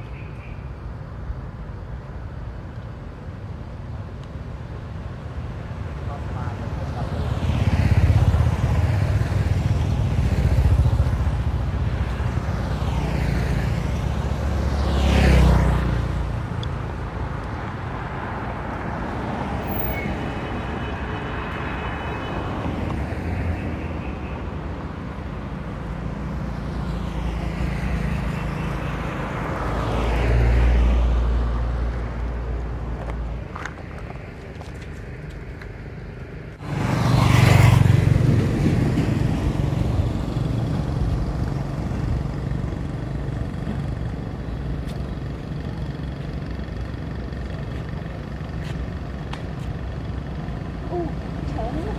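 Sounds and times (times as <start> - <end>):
cars passing: 0.0 - 51.9
motorbikes passing: 5.3 - 51.9.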